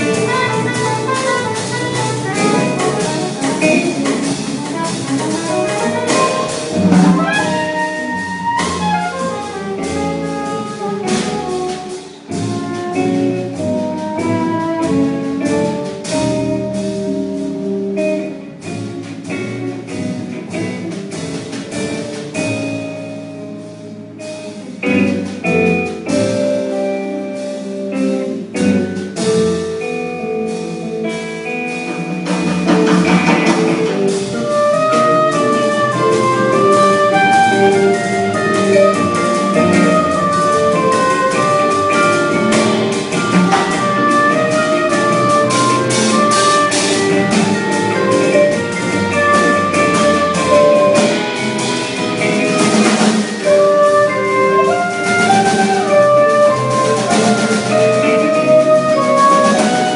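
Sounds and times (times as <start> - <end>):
double bass: 0.0 - 59.9
drum kit: 0.0 - 59.9
guitar: 0.0 - 59.9.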